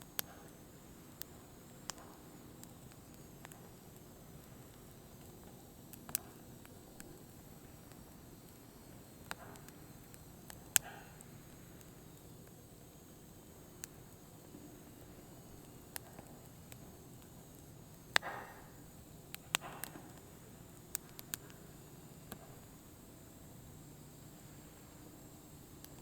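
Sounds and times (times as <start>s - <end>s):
faint steady hiss: 0.0s - 26.0s
firewood crackling and popping: 0.1s - 26.0s.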